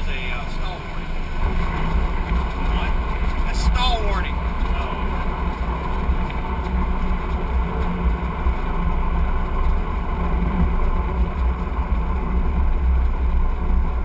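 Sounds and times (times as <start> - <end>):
aircraft engine and propeller: 0.0 - 14.0.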